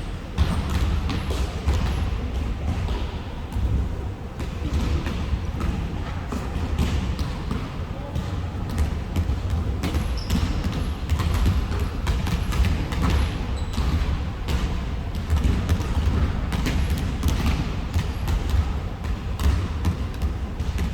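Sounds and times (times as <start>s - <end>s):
basketballs bouncing on gym floor: 0.0s - 20.9s.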